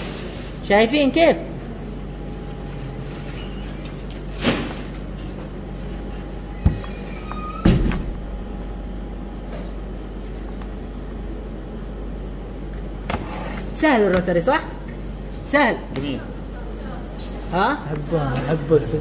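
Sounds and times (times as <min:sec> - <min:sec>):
steady room hum: 0:00.0 - 0:19.0.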